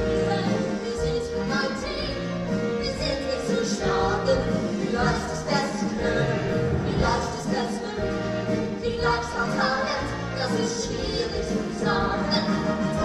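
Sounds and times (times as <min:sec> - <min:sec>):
band accompaniment: 0:00.0 - 0:13.0
people singing: 0:00.0 - 0:13.0.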